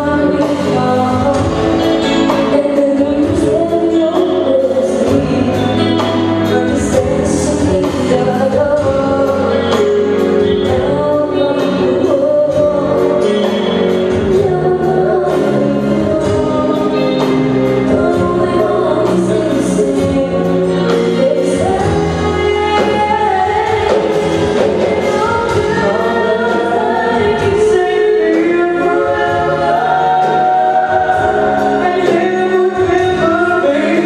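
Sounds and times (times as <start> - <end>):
live band playing: 0.0 - 34.0
person singing: 0.0 - 34.0
steady drum beat: 0.0 - 34.0.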